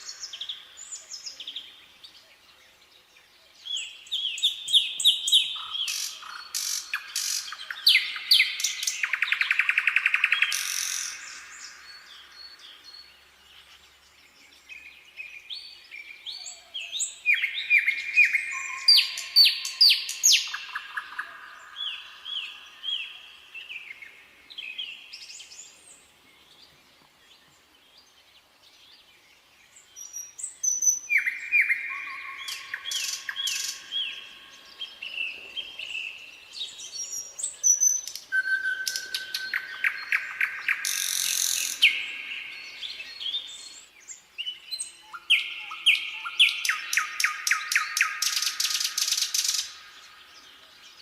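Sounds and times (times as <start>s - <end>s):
nightingale singing: 0.0s - 51.0s.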